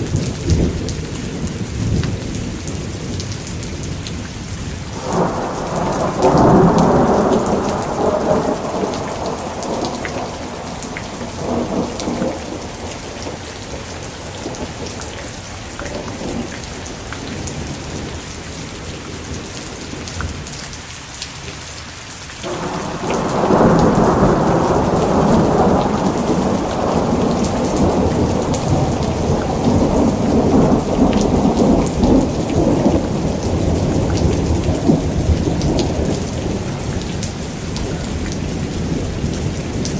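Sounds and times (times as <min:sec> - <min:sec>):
steady rain: 0:00.0 - 0:39.9
thunder rumbling: 0:04.9 - 0:20.0, 0:22.4 - 0:39.9.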